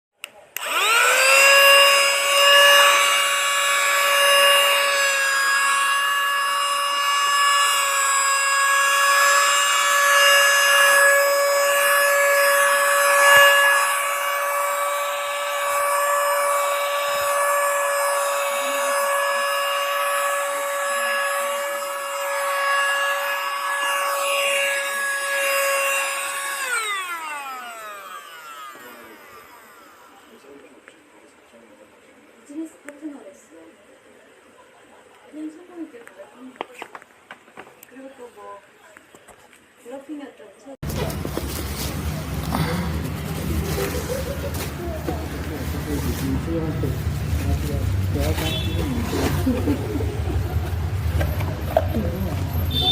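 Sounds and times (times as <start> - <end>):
vacuum cleaner motor whine: 0.6 - 31.6, 40.8 - 52.9.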